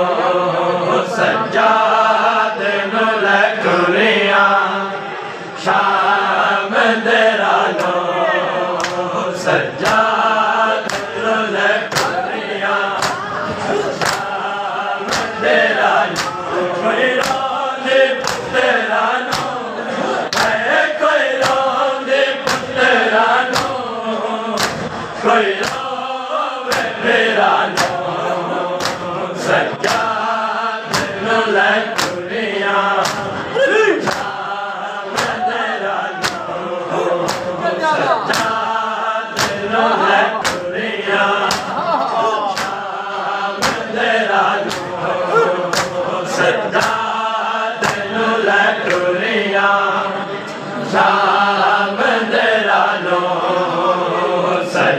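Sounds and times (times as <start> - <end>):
men chanting a lament: 0.0 - 54.9
rhythmic chest-beating slaps: 5.7 - 54.0.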